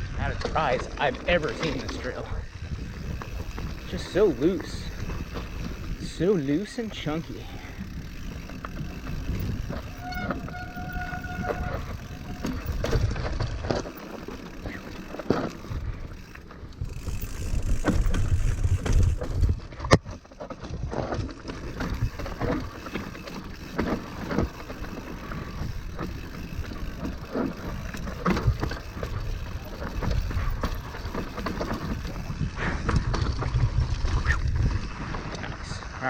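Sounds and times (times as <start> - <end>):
wind rumble on microphone: 0.0 - 13.9, 15.6 - 22.8, 25.3 - 36.0
bike rattling and knocking: 0.0 - 36.0.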